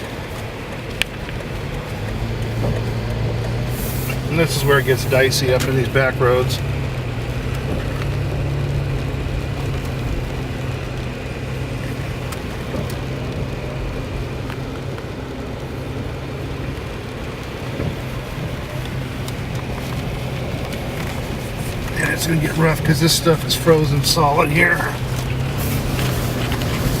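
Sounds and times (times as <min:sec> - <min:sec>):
car engine drone: 0:00.0 - 0:27.0
tyres hissing on icy road: 0:00.0 - 0:27.0.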